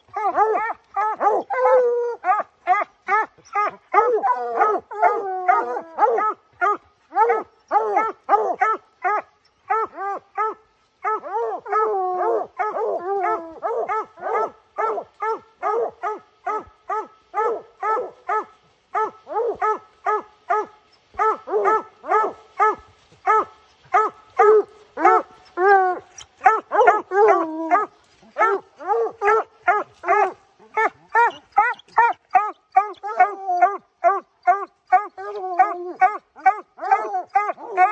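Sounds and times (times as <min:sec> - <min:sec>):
hounds barking: 0:00.0 - 0:37.9.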